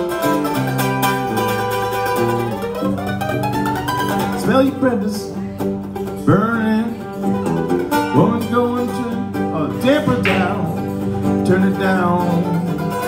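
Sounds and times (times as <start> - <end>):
acoustic guitar and mandolin: 0.0 - 13.0.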